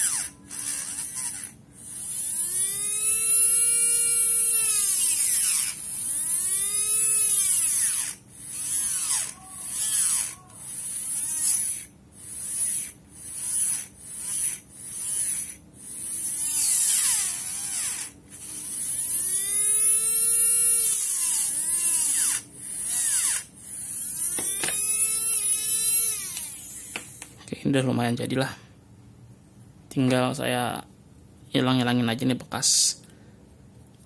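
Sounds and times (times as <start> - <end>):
small motor high-pitched whine: 0.0 - 27.3.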